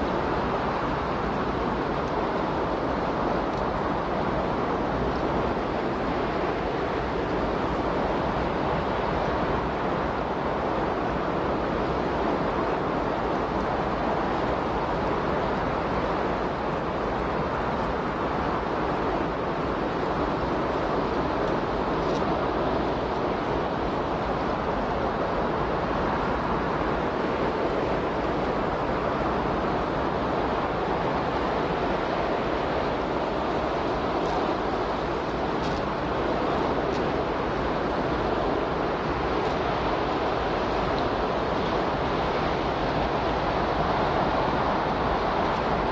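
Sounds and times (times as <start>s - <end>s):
steady rushing noise: 0.0s - 45.9s.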